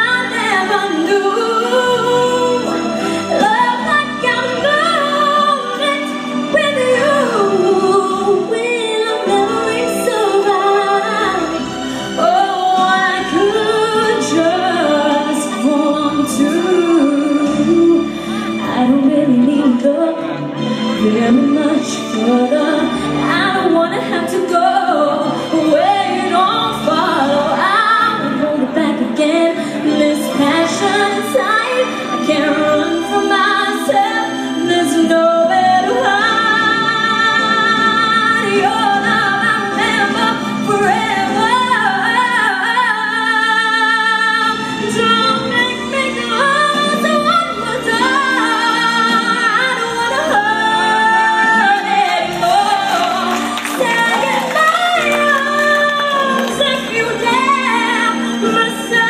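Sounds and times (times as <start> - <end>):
backing music: 0.0 - 59.0
woman singing: 0.0 - 59.0.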